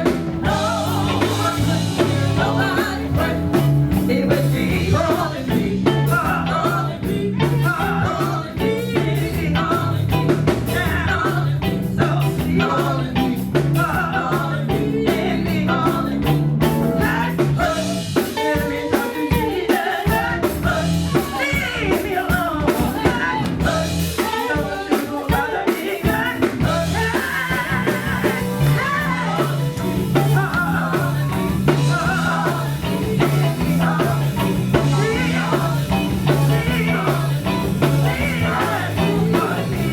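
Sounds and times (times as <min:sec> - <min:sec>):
bass line: 0:00.0 - 0:18.3, 0:20.1 - 0:24.4, 0:26.1 - 0:39.9
drums: 0:00.0 - 0:39.9
guitar: 0:00.0 - 0:39.9
person singing: 0:00.0 - 0:39.9.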